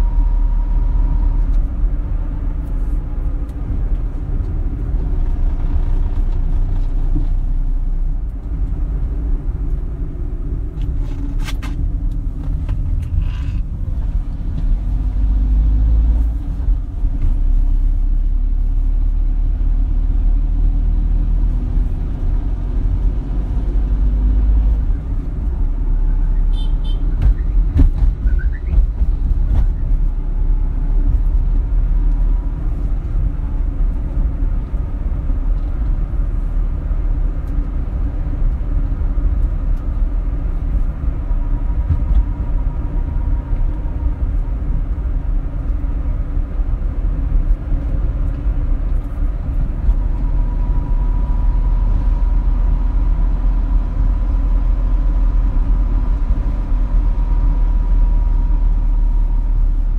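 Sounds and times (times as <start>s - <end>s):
low background rumble: 0.0s - 59.9s.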